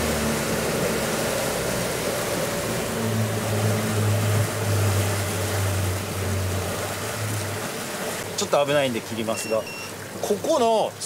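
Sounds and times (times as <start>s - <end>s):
outboard engine humming: 0.0s - 11.0s
wind and water rushing: 0.0s - 11.0s.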